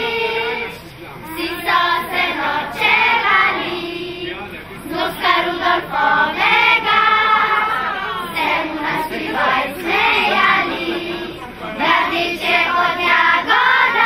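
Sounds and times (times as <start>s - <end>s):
children singing together: 0.0s - 14.0s.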